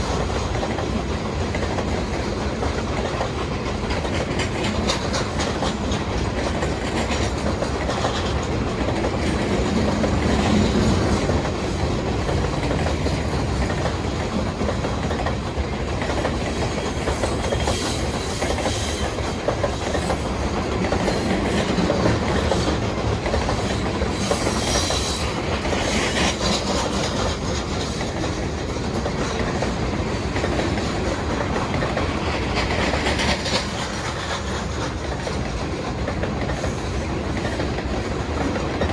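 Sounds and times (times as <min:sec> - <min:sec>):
freight cars rattling on rails: 0:00.0 - 0:38.9.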